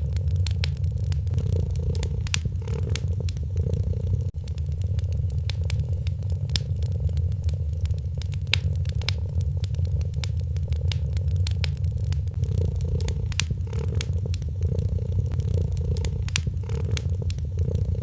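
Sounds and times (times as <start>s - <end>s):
cat purring: 0.0s - 18.0s
wood fire crackling: 0.0s - 18.0s.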